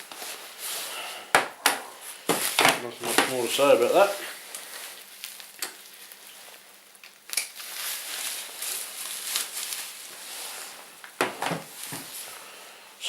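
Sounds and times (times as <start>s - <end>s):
packaging rustling: 1.8s - 12.3s.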